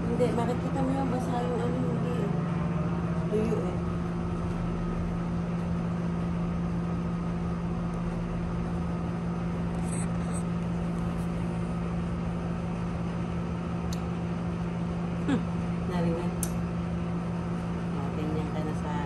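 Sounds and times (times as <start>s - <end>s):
air conditioning hum: 0.0s - 19.0s.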